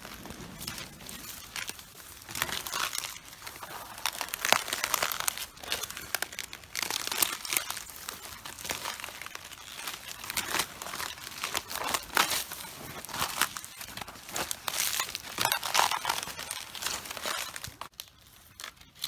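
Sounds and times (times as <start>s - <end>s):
footsteps crushing cabbages: 0.0s - 19.0s.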